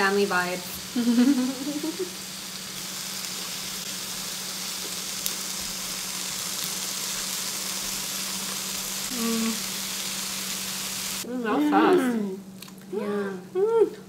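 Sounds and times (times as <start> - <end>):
meat sizzling on a grill: 0.0 - 11.3.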